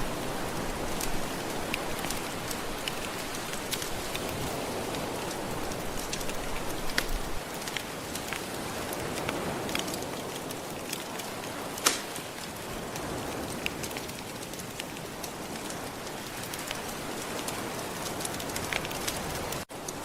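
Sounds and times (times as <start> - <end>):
gentle ocean surf: 0.0 - 20.0
wood fire crackling: 0.0 - 20.0.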